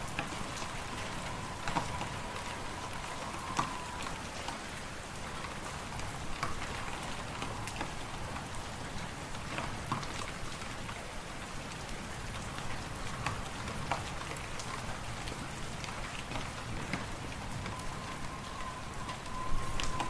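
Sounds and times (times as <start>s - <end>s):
low wind rumble: 0.0s - 10.6s, 12.0s - 20.0s.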